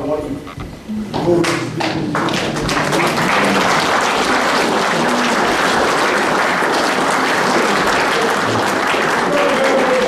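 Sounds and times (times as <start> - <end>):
large audience clapping: 1.4 - 10.0.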